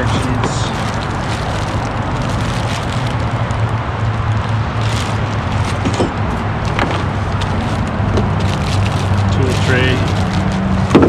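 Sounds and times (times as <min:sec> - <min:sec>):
freeway traffic noise: 0:00.0 - 0:11.0
rustling: 0:00.0 - 0:11.0.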